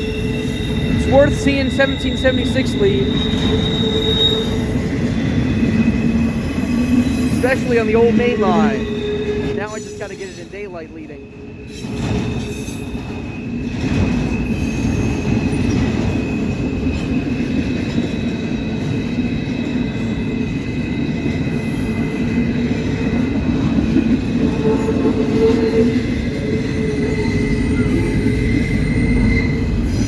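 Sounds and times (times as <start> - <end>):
high-pitched wheel squeal: 0.0 - 30.0
train wheels rumbling on rail: 0.0 - 30.0.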